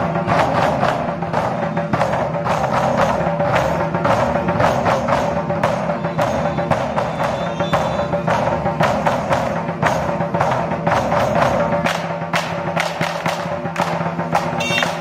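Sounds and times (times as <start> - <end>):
barrel drums beating: 0.0 - 15.0.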